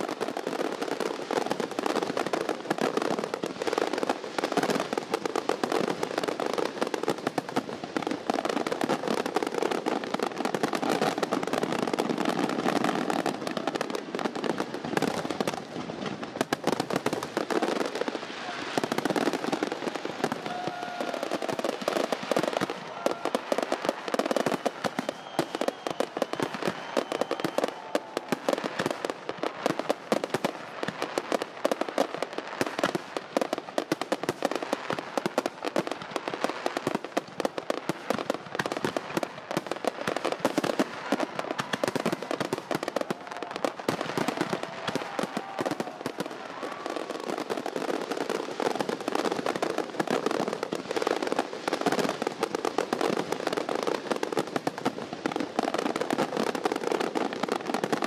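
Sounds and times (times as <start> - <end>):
fireworks popping and crackling: 0.0 - 58.0.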